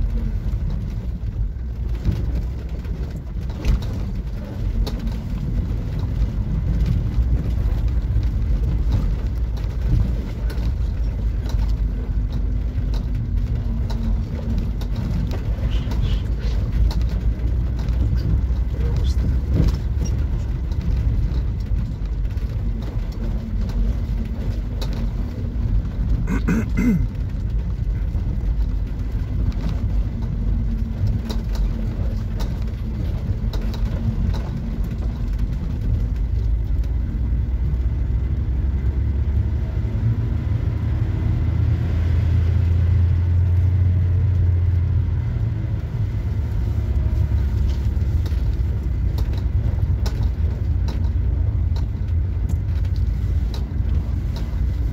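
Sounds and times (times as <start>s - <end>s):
van engine and tyres rumbling: 0.0s - 54.9s.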